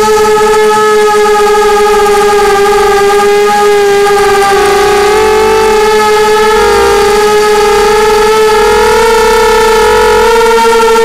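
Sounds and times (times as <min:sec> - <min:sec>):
quadcopter motors whining: 0:01.5 - 0:11.0.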